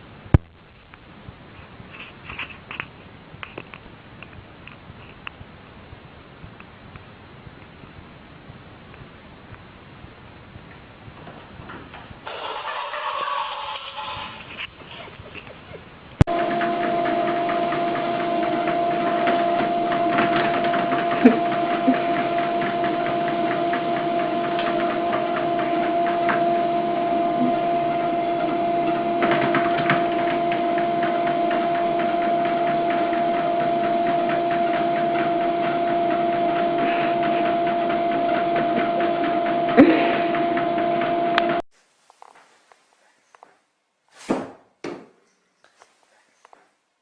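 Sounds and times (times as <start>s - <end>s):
machine hum: 0.0s - 43.5s.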